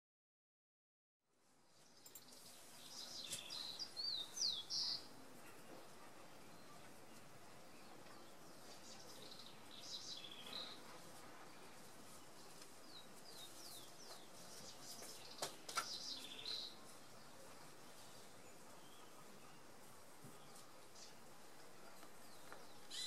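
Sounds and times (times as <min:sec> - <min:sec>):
steady low hiss: 0:01.3 - 0:23.0
small birds chirping: 0:01.7 - 0:23.0.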